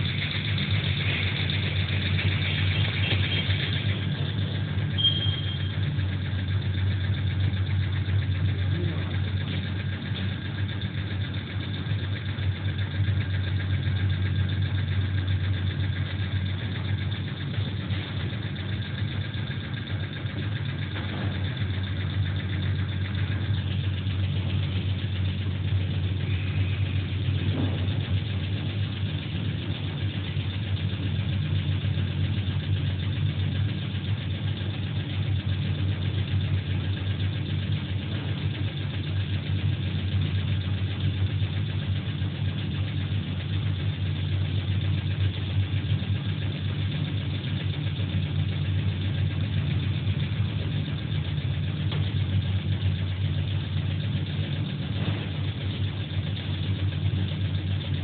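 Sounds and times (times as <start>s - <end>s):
pump motor drone: 0.0s - 58.0s.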